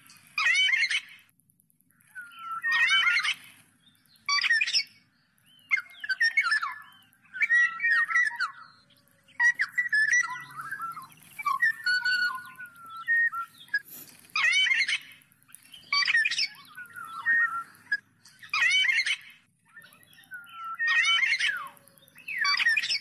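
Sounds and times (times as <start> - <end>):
bird singing whistled phrases: 2.0 - 23.0.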